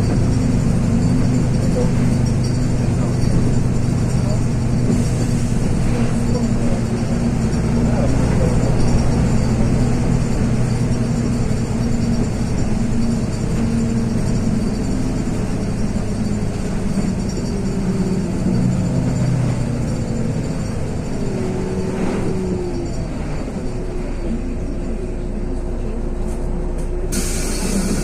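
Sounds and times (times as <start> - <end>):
bus diesel engine hum: 0.0 - 28.0
drivetrain whine: 0.0 - 28.0.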